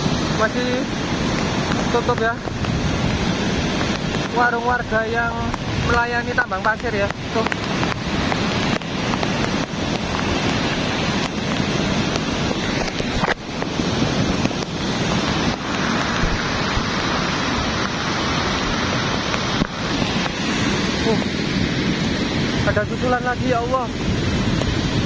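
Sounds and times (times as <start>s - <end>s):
mudflow rushing down river: 0.0s - 25.0s.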